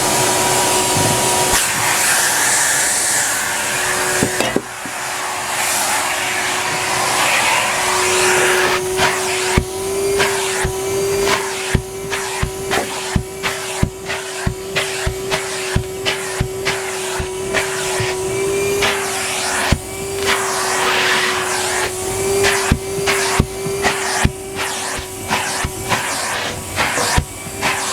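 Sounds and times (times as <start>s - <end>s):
vacuum cleaner running: 0.0s - 27.9s.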